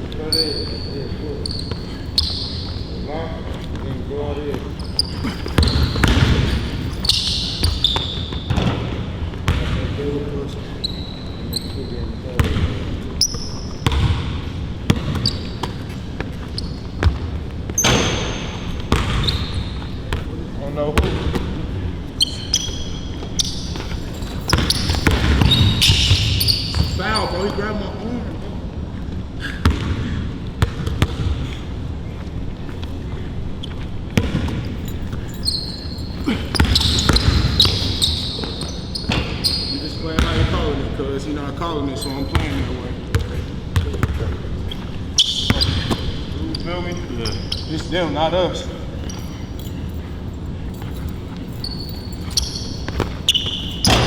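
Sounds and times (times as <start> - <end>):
basketball bouncing on court: 0.0 - 10.2, 12.2 - 27.6, 29.4 - 31.6, 34.0 - 40.9, 42.1 - 48.0, 49.0 - 54.0
sneakers squeaking: 0.0 - 54.0.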